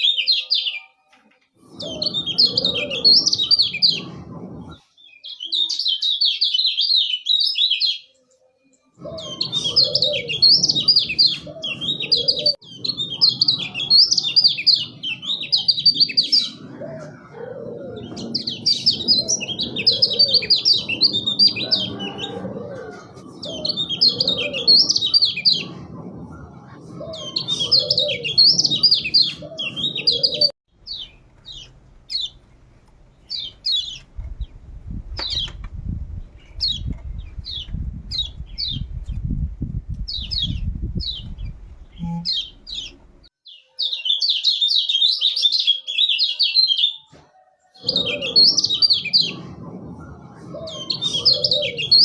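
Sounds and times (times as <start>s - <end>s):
low rumbling noise: 1.6s - 4.9s, 9.0s - 43.3s, 47.8s - 52.0s
bird twittering and chirping: 1.6s - 8.1s, 9.0s - 32.4s, 33.2s - 39.4s, 40.0s - 47.0s, 47.8s - 52.0s.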